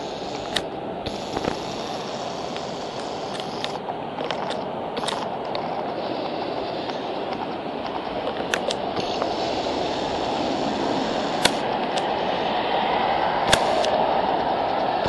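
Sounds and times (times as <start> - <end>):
car tyres hissing on wet road: 0.0 - 15.0
heavy rain pouring: 0.0 - 15.0.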